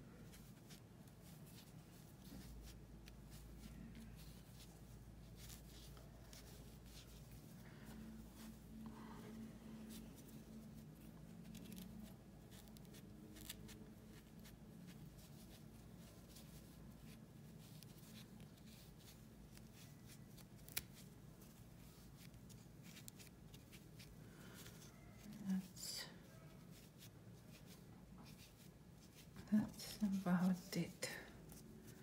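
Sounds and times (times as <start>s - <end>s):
rustling of stuffing: 0.0s - 32.0s.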